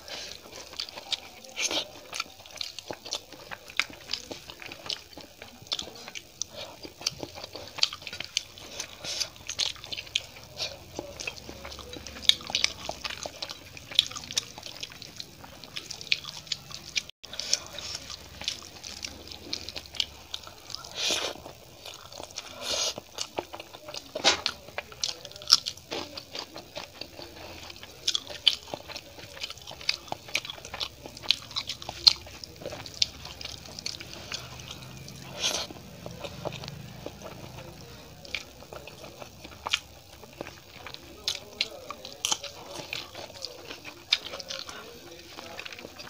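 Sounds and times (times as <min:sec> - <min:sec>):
mouth chewing with lip smacks: 0:00.0 - 0:46.0.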